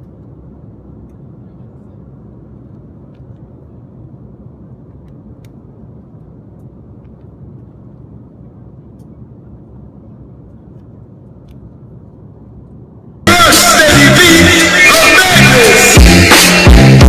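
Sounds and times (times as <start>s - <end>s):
airliner cabin noise: 0.0s - 16.8s.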